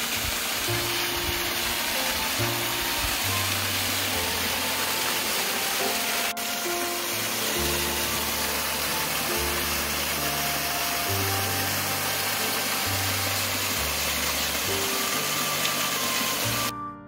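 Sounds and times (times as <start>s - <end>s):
waterfall splashing: 0.0s - 16.7s
slow music with held notes: 0.0s - 17.0s.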